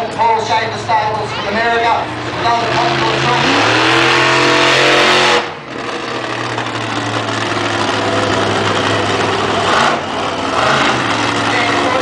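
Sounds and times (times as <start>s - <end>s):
monster truck engine revving: 0.7s - 12.0s.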